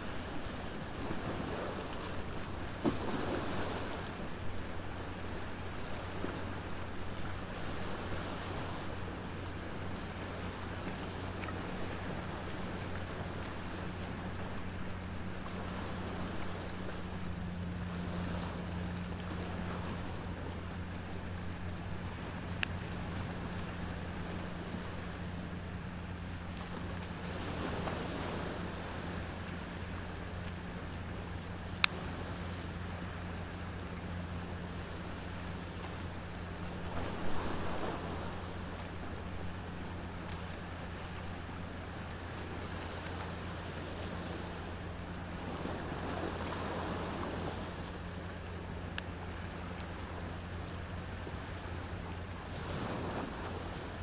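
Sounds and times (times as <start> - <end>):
ocean surf: 0.0 - 54.0.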